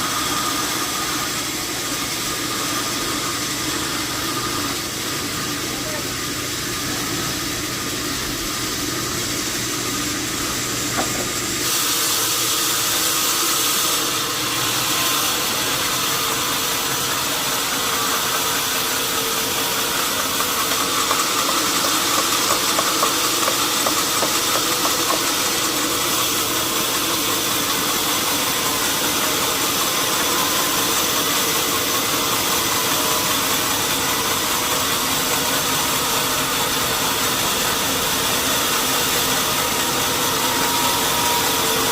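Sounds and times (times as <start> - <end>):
saw hissing through log: 0.0 - 41.9
sawmill machinery drone: 0.0 - 41.9.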